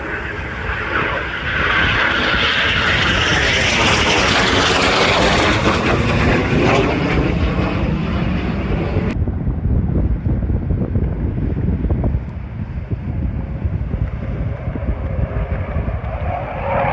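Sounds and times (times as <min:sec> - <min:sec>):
military jet engines overhead: 0:00.0 - 0:16.9
wind buffeting microphone: 0:00.0 - 0:16.9.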